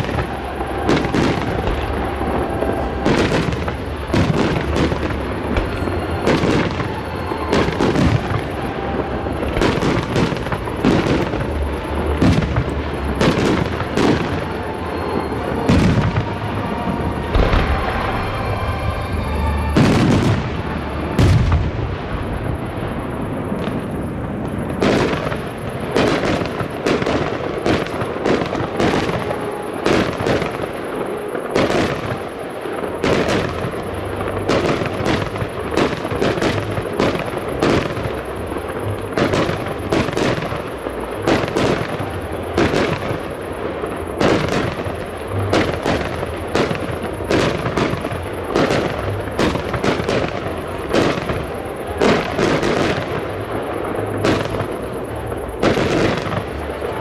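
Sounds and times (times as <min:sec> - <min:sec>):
fireworks crackle: 0:00.0 - 0:57.0
fireworks shells bursting: 0:00.0 - 0:57.0.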